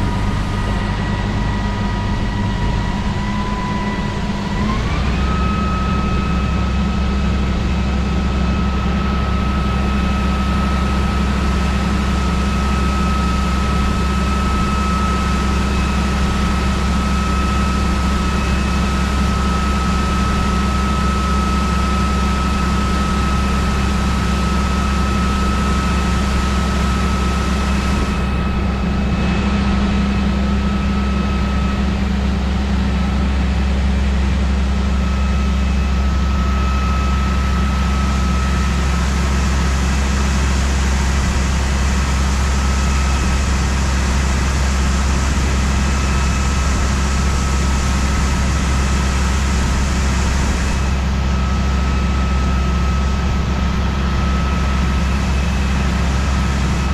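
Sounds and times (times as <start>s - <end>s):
faint high whine: 0.0s - 56.9s
heavy diesel machinery drone: 0.0s - 56.9s.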